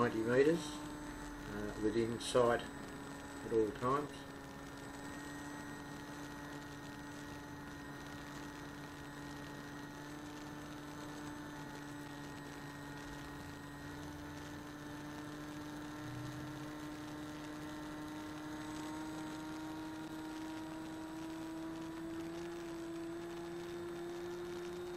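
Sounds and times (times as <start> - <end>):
model plane motor and propeller hum: 0.0 - 24.9.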